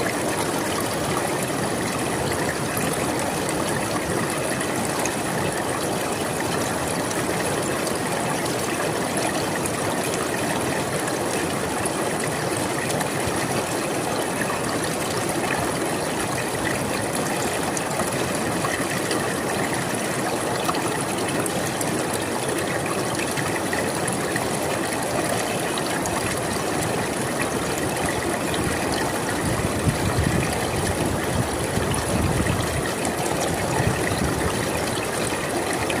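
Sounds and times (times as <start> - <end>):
deeper rushing water: 0.0 - 36.0
river flowing: 0.0 - 36.0.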